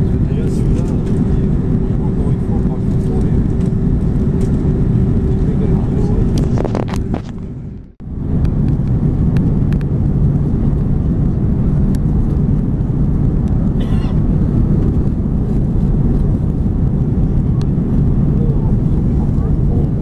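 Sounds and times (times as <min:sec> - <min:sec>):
rushing air: 0:00.0 - 0:19.2
aircraft engine rumble: 0:00.0 - 0:20.0.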